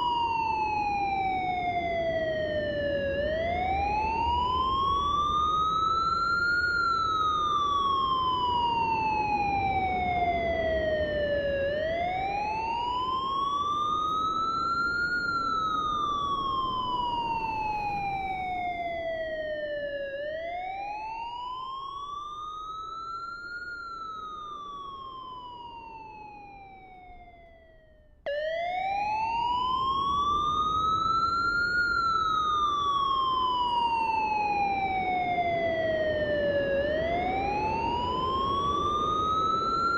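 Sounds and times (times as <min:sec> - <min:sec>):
siren wailing: 0:00.0 - 0:39.9.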